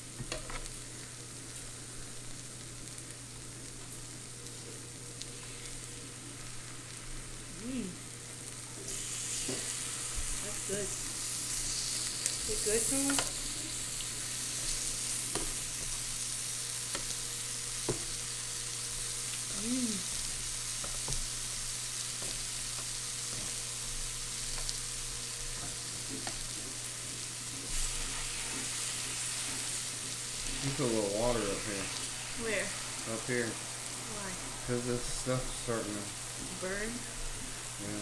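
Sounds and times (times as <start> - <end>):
meat sizzling on a grill plate: 0.0 - 38.0.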